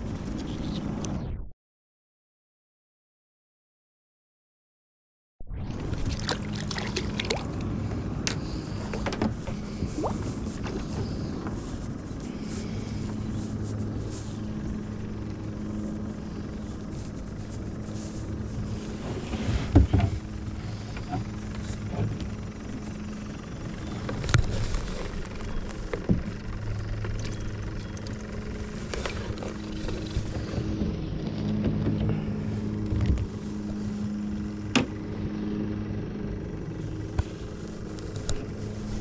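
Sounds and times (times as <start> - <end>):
steady low hum: 5.5 - 39.0.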